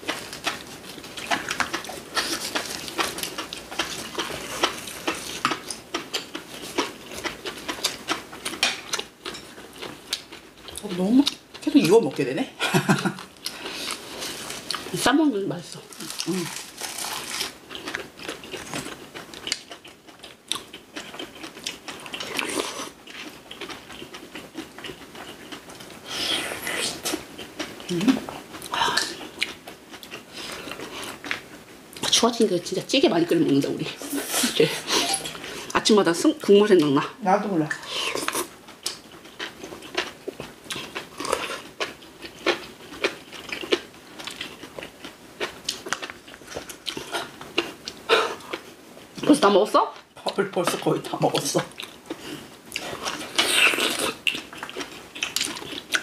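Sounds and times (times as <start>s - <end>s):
chewing crunchy food: 0.0s - 12.2s, 13.2s - 15.1s, 15.7s - 32.2s, 37.7s - 56.0s.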